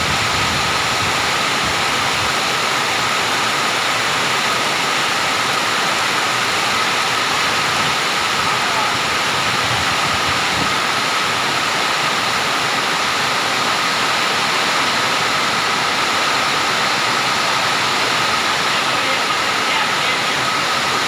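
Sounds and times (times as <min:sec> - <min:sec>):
heavy rain: 0:00.0 - 0:21.0
wind: 0:00.0 - 0:21.0.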